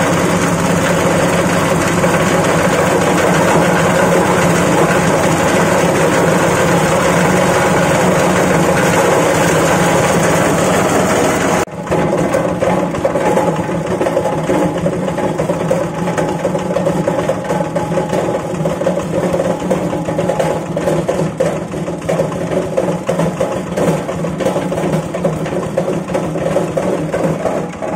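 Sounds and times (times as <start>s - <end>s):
shredding machine humming: 0.0s - 27.9s.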